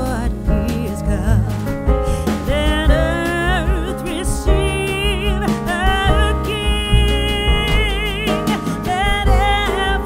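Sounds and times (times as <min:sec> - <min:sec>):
steady bass accompaniment: 0:00.0 - 0:10.0
sung melody with vibrato: 0:00.0 - 0:10.0.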